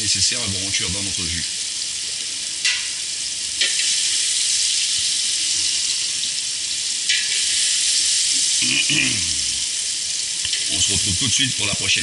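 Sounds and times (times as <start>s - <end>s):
food sizzling in hot fat: 0.0s - 12.0s.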